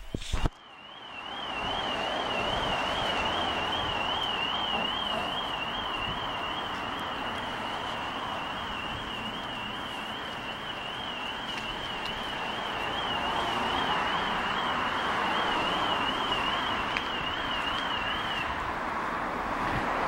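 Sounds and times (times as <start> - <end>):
street traffic hiss: 0.0 - 20.0
electronic alarm warbling: 0.7 - 18.5.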